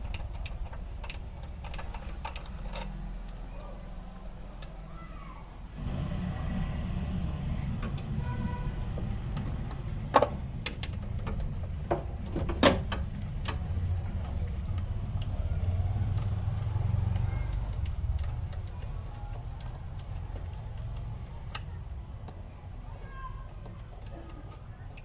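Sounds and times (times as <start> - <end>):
scooter engine rumbling: 0.0 - 25.0.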